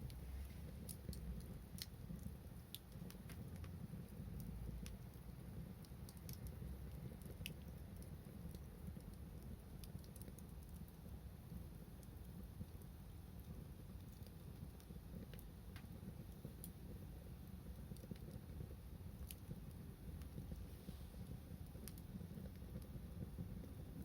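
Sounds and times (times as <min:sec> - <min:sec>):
low steady rumble: 0:00.0 - 0:24.0
wood fire crackling: 0:00.0 - 0:24.0.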